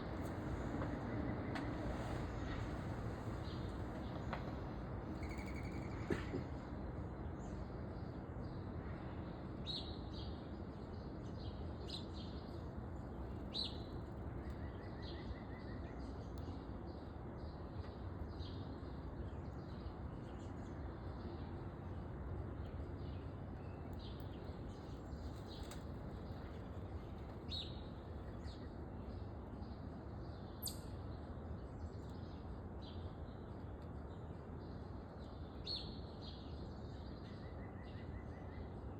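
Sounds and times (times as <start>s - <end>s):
low background noise: 0.0s - 38.9s.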